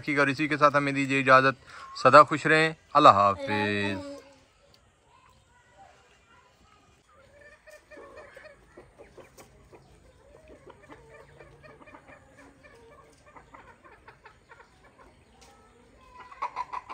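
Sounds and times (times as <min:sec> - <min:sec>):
chickens clucking faintly: 0:00.0 - 0:16.9.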